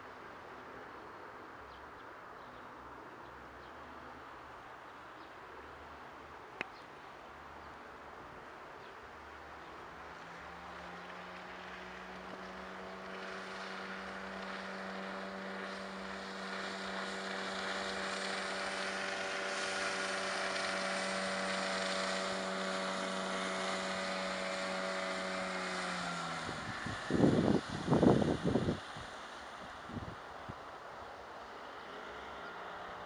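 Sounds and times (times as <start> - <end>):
outboard motor boat passing: 0.0 - 33.0.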